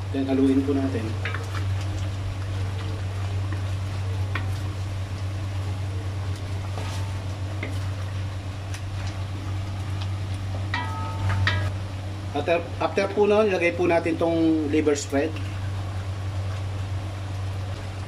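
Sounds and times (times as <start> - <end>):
steady low hum: 0.0 - 18.0
stew boiling in a pan: 0.0 - 18.0.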